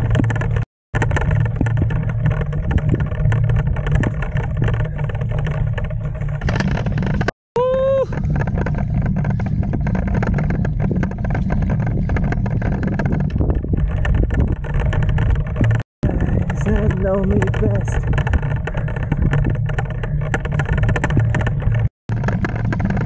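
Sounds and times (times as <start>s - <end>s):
wind buffeting microphone: 0.0s - 5.4s, 7.6s - 23.0s
bicycle tyres crunching on gravel: 1.3s - 21.3s.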